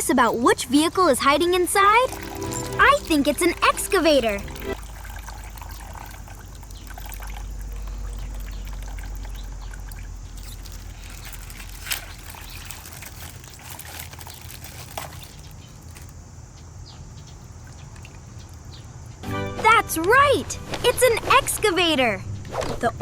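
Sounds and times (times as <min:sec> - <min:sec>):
water trickling and sloshing: 0:00.2 - 0:19.2.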